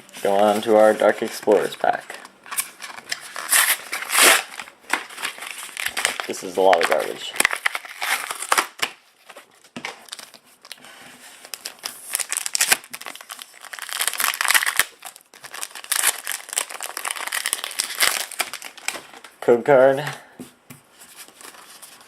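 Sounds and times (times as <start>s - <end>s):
foil wrapper crinkling: 0.3s - 10.8s, 11.4s - 19.3s.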